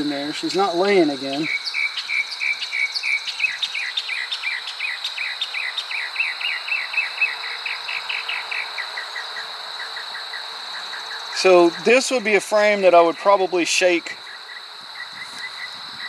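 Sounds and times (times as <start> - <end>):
high-pitched whine and hiss: 0.0 - 5.6, 6.2 - 16.0.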